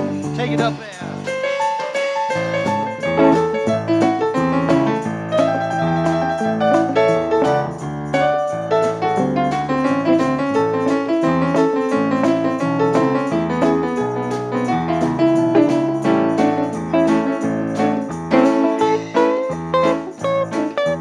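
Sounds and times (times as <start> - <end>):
electronic keyboard piano melody: 0.0 - 21.0.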